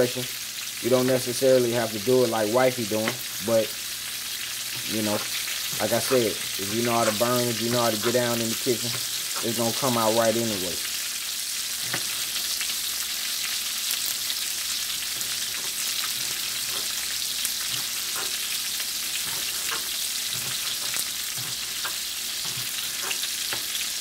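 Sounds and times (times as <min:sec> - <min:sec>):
meat sizzling in oil: 0:00.0 - 0:24.0.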